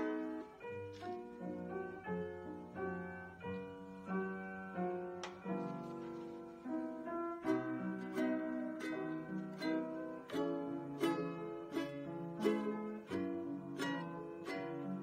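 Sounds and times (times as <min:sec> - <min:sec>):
upright piano melody: 0:00.0 - 0:15.0.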